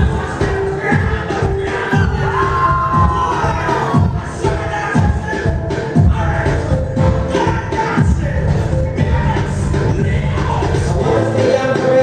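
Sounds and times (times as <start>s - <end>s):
dance music over a sound system: 0.0s - 12.0s.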